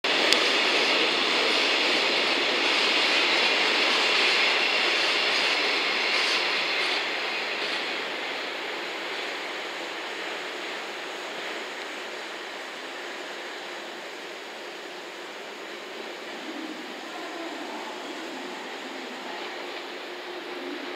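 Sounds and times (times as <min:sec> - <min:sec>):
electric train running on track: 0:00.0 - 0:20.9.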